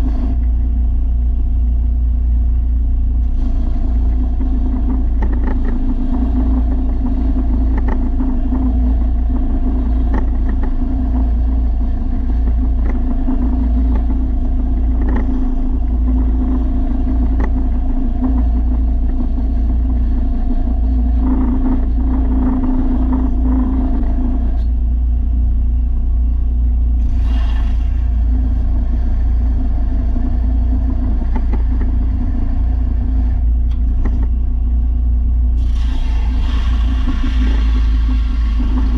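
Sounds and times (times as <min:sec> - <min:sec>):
mid-pitched hum: 0:00.0 - 0:38.9
motor humming: 0:03.1 - 0:38.9.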